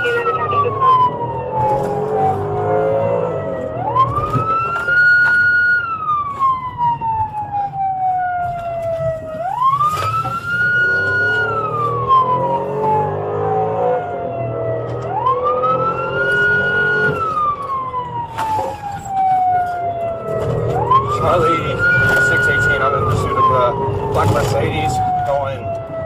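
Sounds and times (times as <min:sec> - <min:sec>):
engine and road rumble: 0:00.0 - 0:26.0
police siren wailing: 0:00.0 - 0:26.0.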